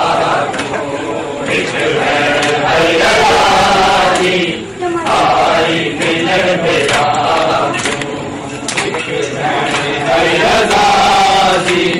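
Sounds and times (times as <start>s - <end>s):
crowd of men chanting: 0.0s - 11.9s.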